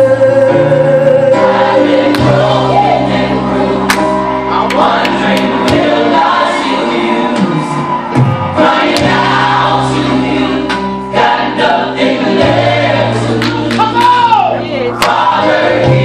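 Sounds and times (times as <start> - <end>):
choir singing: 0.0 - 16.0.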